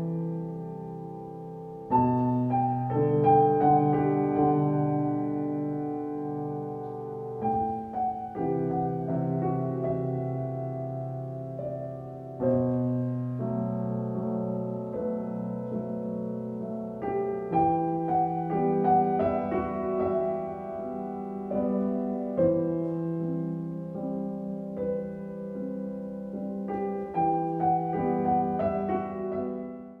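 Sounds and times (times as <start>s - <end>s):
slow piano music: 0.0s - 30.0s.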